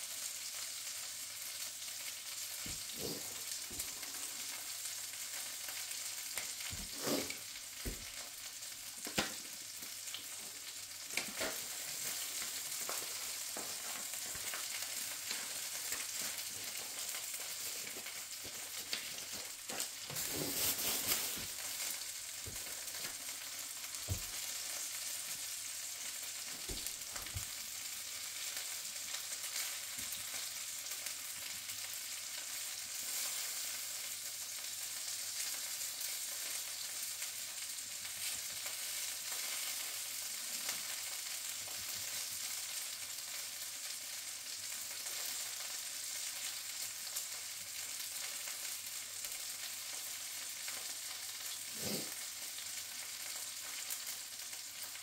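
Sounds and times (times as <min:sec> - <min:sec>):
sausages sizzling in a skillet: 0:00.0 - 0:55.0.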